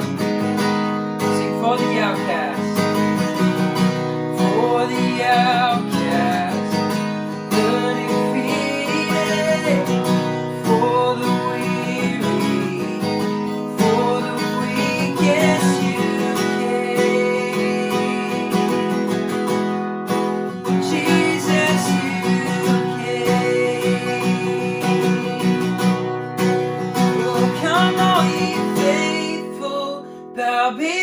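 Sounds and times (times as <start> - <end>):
strummed acoustic guitar: 0.0 - 31.0.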